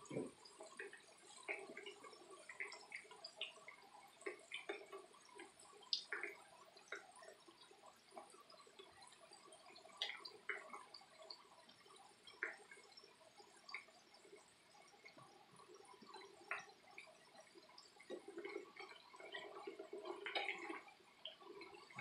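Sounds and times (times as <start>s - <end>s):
fries sizzling in hot oil: 0.0s - 22.0s.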